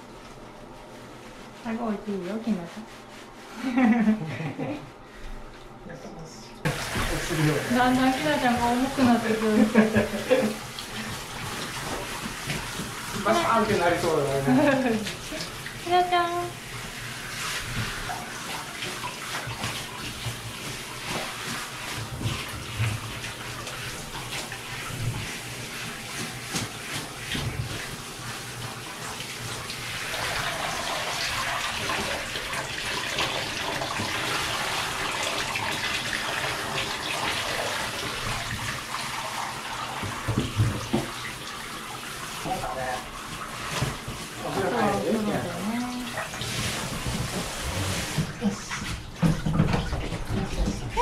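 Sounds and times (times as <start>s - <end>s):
shower spraying water on dog: 0.0s - 5.6s, 6.6s - 51.0s
water splashing on plastic: 6.7s - 51.0s.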